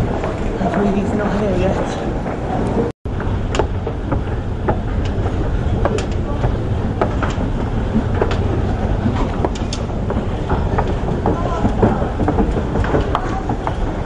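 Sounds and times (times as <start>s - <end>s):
footsteps on stairs: 0.0s - 14.0s
low rumble of busy station: 0.0s - 14.0s
train running: 0.0s - 14.0s.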